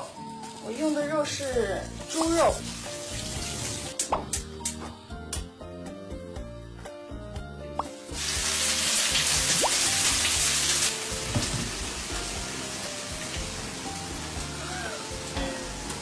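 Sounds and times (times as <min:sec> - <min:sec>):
meat sizzling in hot oil: 0:00.0 - 0:05.2, 0:07.8 - 0:16.0.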